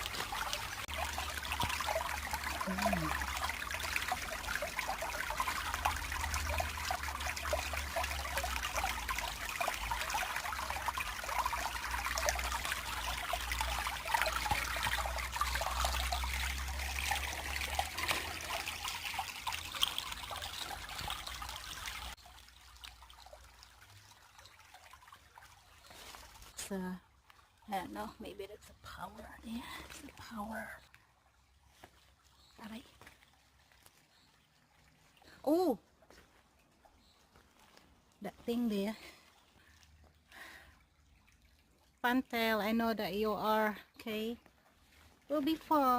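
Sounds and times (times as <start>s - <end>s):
creek water trickling: 0.0s - 45.9s.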